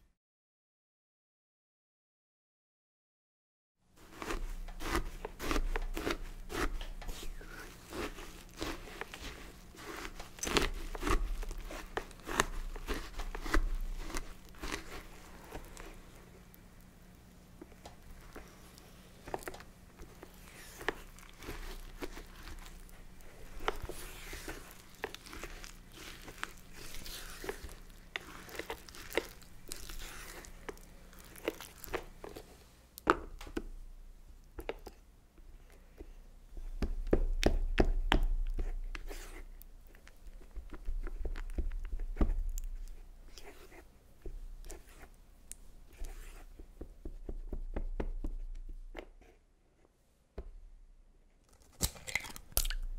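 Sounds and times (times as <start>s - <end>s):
faint steady hum: 3.9s - 52.9s
thick mixture being stirred: 4.0s - 49.4s.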